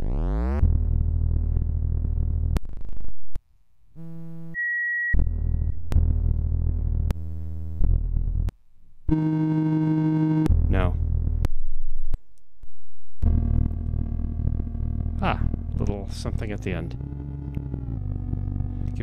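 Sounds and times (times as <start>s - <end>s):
electronic drones and tones: 0.0s - 3.0s, 4.0s - 8.3s, 9.1s - 11.6s, 13.2s - 19.0s.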